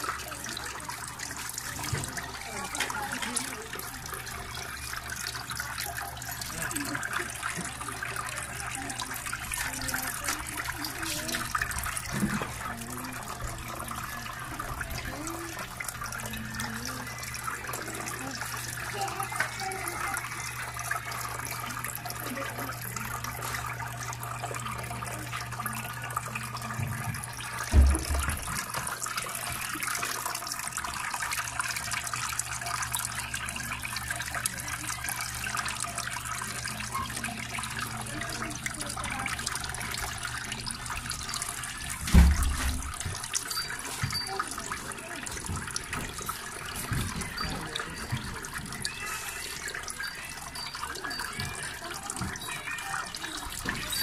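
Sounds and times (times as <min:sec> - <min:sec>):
fountain water trickling: 0:00.0 - 0:54.0.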